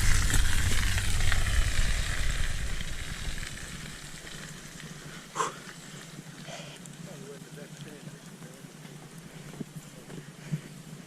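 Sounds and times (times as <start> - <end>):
rain hissing: 0.0 - 11.0
vehicle engine and tyres rumbling: 0.0 - 11.0.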